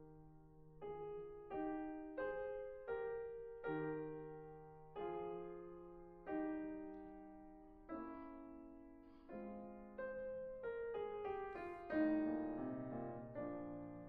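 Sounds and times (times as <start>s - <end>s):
slow solo piano: 0.0s - 14.0s.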